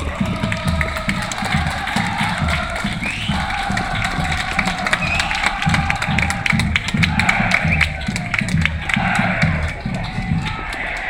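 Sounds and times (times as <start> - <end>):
big drums beating: 0.0 - 11.0
crowd chanting: 0.0 - 11.0
people clapping: 0.0 - 11.0.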